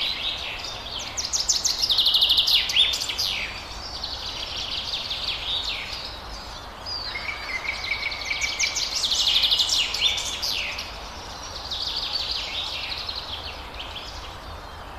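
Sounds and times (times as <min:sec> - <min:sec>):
wild birds chirping and trilling: 0:00.0 - 0:14.9.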